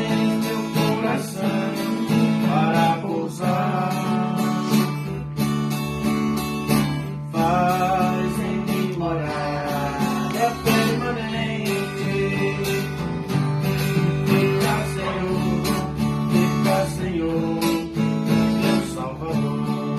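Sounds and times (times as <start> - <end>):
acoustic guitar playing: 0.0 - 19.9.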